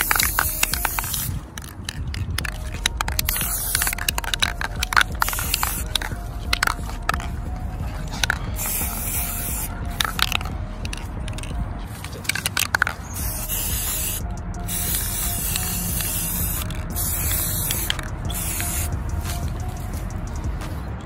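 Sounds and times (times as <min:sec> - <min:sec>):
sharp clicks: 0:00.0 - 0:19.7
spray paint can hissing: 0:00.0 - 0:21.0.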